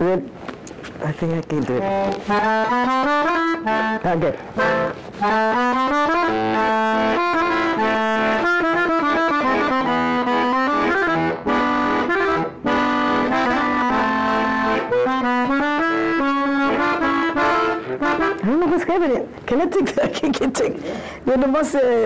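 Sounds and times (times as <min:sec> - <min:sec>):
button accordion melody: 0:01.2 - 0:19.8.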